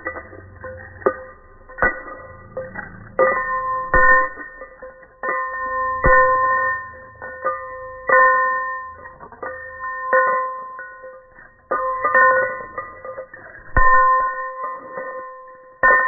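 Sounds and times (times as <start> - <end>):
bell ringing: 0.0 - 16.0.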